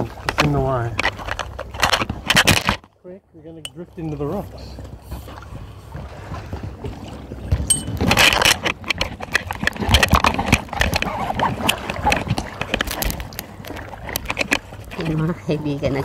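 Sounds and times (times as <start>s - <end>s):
kayak paddles splashing and knocking: 0.0s - 16.0s.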